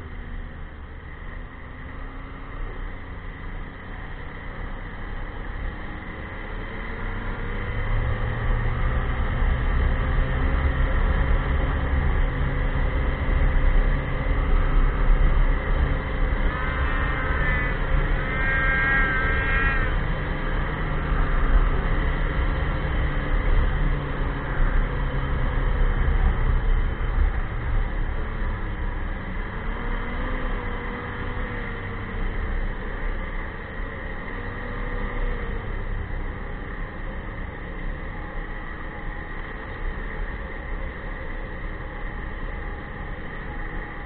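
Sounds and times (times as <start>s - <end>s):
high engine whine: 0.0s - 44.0s
snowmobile engine droning: 0.0s - 44.0s.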